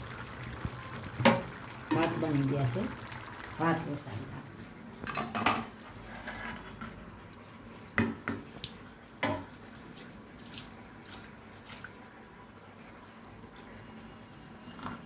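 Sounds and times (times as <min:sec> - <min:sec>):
water trickling through colander: 0:00.0 - 0:15.0.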